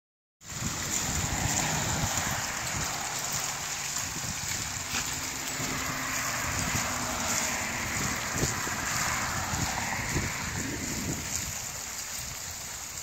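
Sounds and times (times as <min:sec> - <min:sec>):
water splashing onto rocks: 0:00.4 - 0:13.0
wind rumble on microphone: 0:00.4 - 0:13.0.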